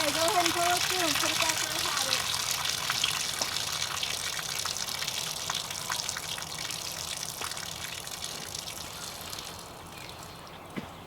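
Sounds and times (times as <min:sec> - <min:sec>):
water gushing and splattering: 0:00.0 - 0:10.4.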